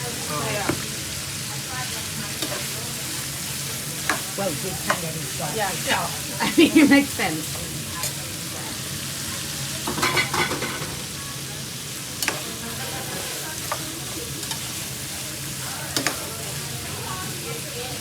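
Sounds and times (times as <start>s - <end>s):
food sizzling in a hot pan: 0.0s - 18.0s.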